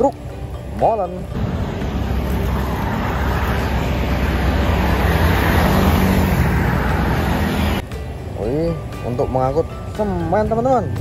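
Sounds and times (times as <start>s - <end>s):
truck engines: 0.0s - 9.0s
highway traffic: 0.0s - 11.0s.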